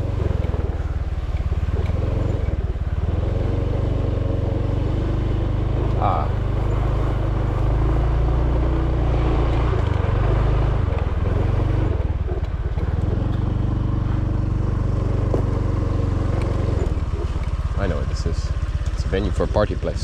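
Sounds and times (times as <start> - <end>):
motorbike engine idling: 0.0 - 20.0.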